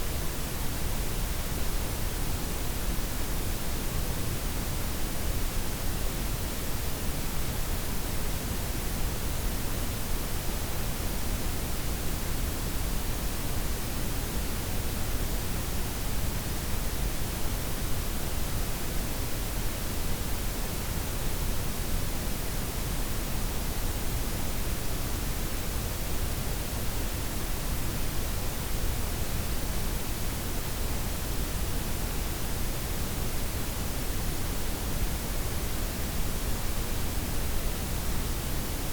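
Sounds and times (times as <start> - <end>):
steady noise hiss: 0.0 - 38.9.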